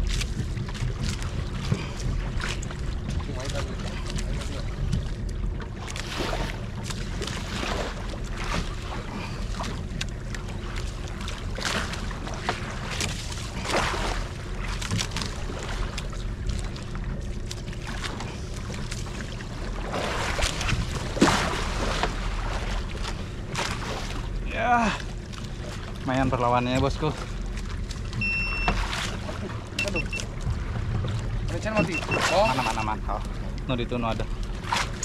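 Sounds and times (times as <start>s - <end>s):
boat engine running: 0.0s - 35.0s
water sloshing: 0.0s - 35.0s.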